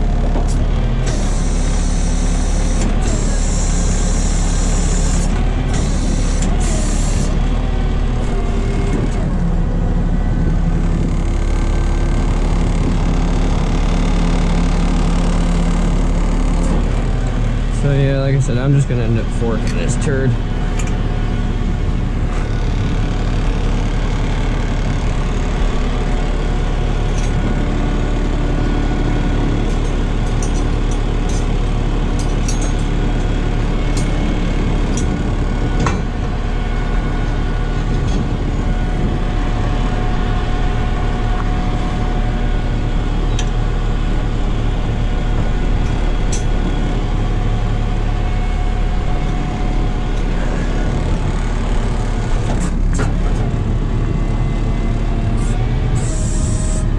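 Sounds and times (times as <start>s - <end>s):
truck engine idling: 0.0s - 56.9s.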